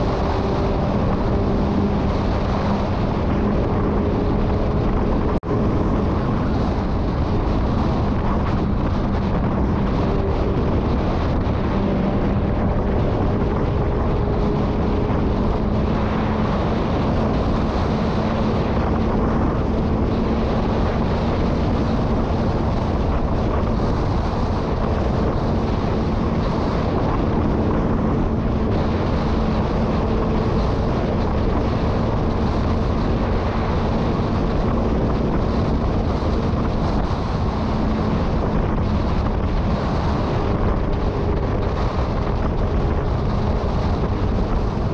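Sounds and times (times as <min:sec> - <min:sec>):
motorcycle engine cruising: 0:00.0 - 0:44.9
wind rush on microphone: 0:00.0 - 0:44.9.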